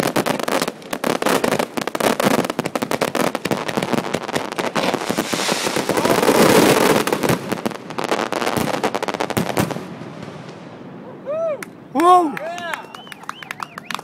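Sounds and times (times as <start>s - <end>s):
fireworks bangs and crackles: 0.0s - 11.6s.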